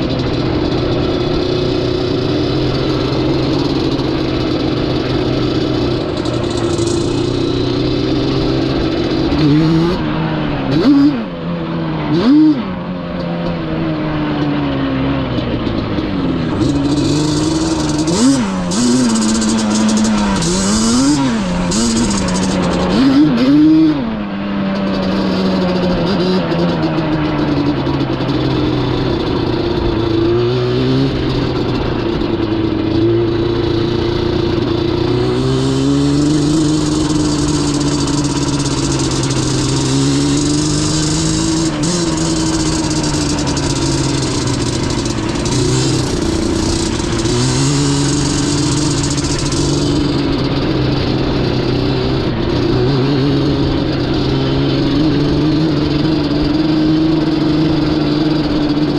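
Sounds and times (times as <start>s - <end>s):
two-stroke engine revving: 0.0s - 58.9s.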